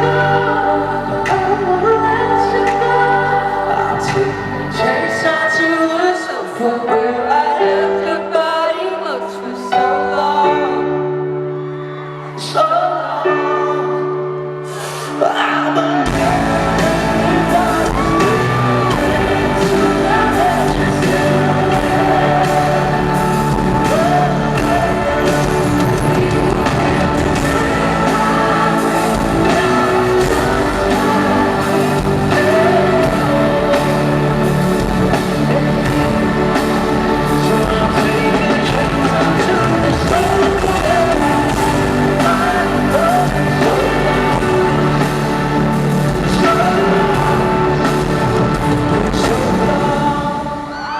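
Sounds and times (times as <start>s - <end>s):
live pop-rock band music: 0.0s - 50.9s
person singing: 0.0s - 50.9s.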